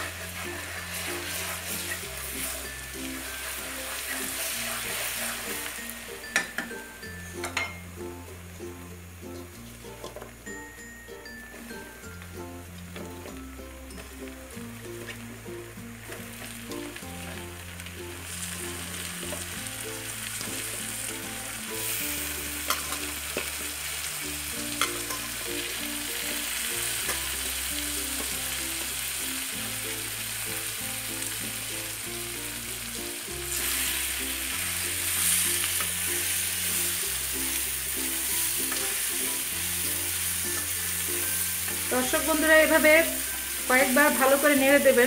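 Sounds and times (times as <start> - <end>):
food sizzling in oil: 0.0 - 45.0.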